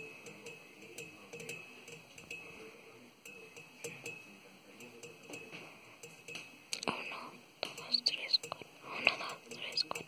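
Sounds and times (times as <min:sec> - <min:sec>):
fingers tapping on metal bar: 0:00.0 - 0:02.6, 0:03.2 - 0:06.9, 0:07.6 - 0:10.0.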